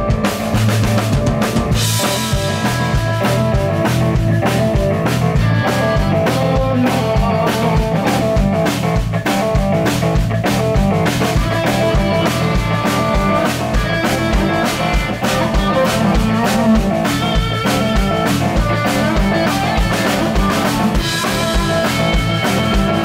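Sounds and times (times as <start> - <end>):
drum kit beat: 0.0 - 23.0
electric bass: 0.0 - 23.0
electric guitar lead: 0.0 - 23.0.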